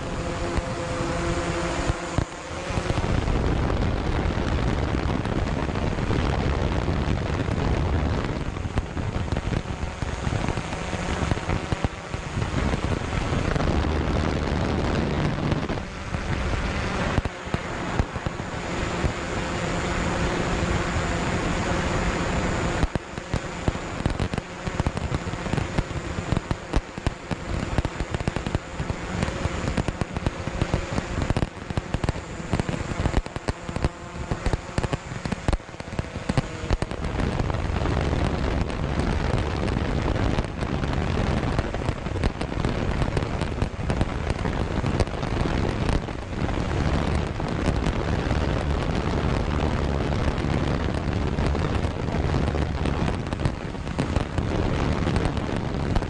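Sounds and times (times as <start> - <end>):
fireworks popping and booming: 0.0 - 56.0.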